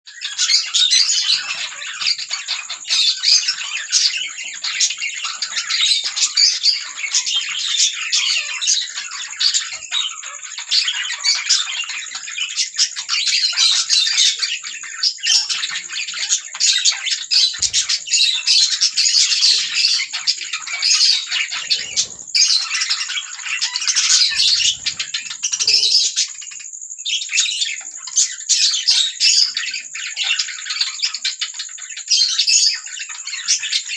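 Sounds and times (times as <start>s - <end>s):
budgerigars chattering and warbling: 0.1s - 33.9s.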